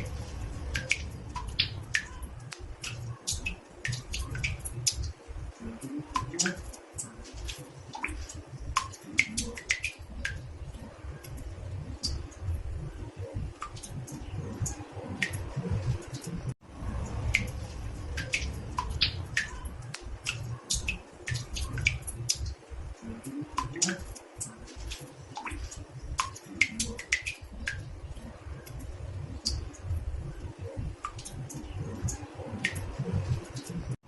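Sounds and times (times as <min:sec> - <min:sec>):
water drops plinking in bathtub: 0:00.7 - 0:16.3, 0:17.0 - 0:34.0.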